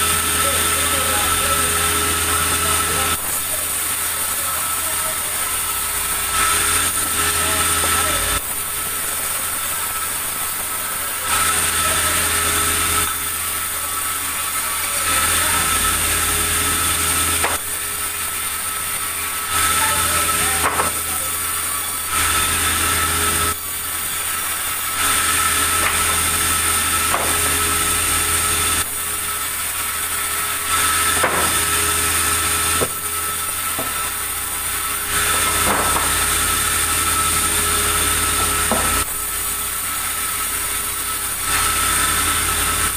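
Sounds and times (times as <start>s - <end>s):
sawmill saw cutting timber: 0.0s - 42.9s.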